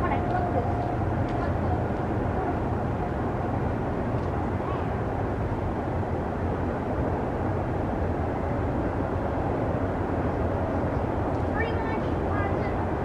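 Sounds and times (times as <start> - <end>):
train cars rumbling past: 0.0 - 13.0.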